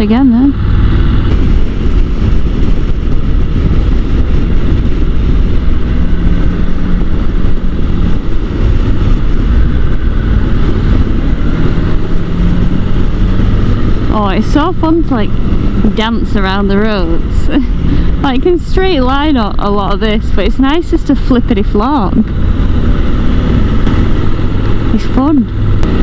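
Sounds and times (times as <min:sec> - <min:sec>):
motorcycle engine drone: 0:00.0 - 0:26.0
wind rush on microphone: 0:00.0 - 0:26.0.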